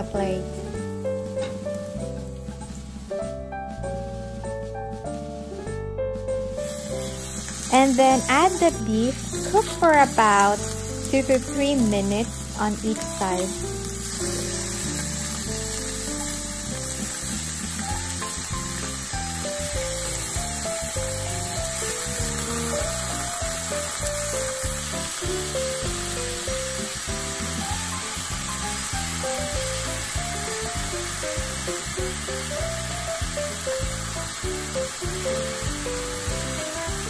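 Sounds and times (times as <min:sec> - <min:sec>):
meat sizzling in hot oil: 0:00.0 - 0:05.6, 0:06.5 - 0:37.0
background music with melody: 0:00.0 - 0:37.0.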